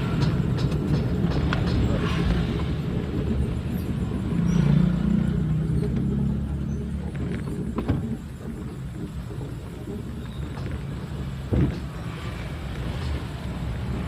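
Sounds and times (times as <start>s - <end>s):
minibus engine and road noise: 0.0s - 14.0s.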